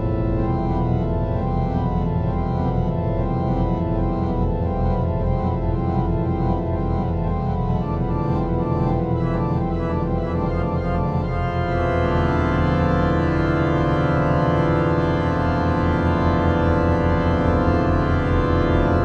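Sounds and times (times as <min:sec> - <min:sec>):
organ music: 0:00.0 - 0:19.0.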